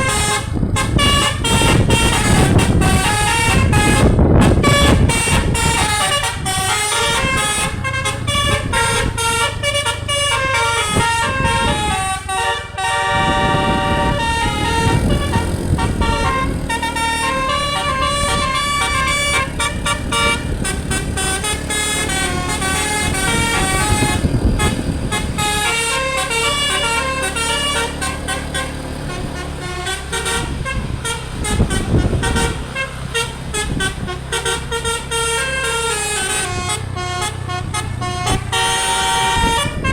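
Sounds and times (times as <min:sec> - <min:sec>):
bus engine running: 0:00.0 - 0:39.9
musical air horn melody: 0:00.0 - 0:39.9.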